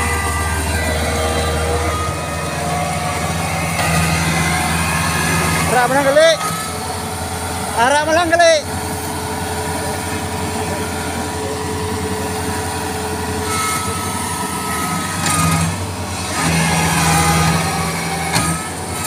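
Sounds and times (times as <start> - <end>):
diesel engine labouring: 0.0 - 19.0.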